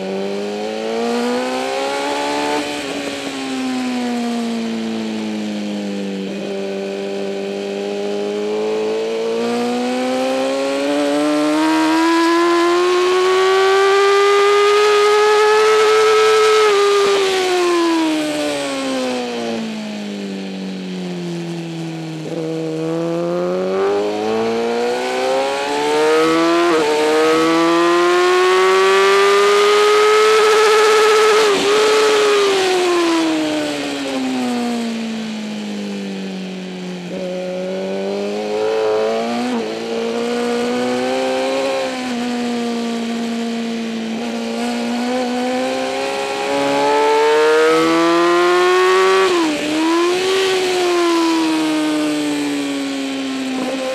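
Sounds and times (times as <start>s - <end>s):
motorcycle engine racing: 0.0s - 53.9s.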